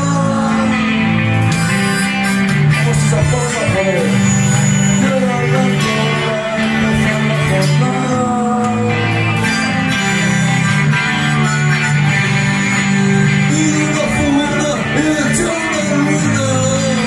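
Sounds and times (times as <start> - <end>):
drums: 0.0 - 17.0
electric guitars: 0.0 - 17.0
low bass line: 0.0 - 17.0.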